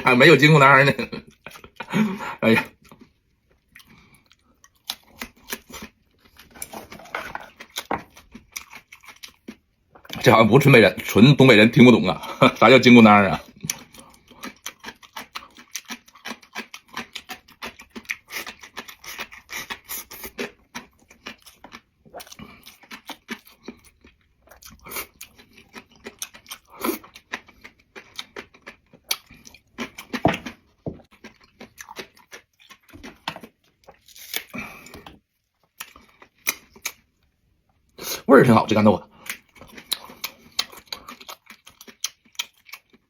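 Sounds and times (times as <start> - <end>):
person chewing crunchy food: 0.9 - 10.3, 12.2 - 38.3, 39.1 - 43.0.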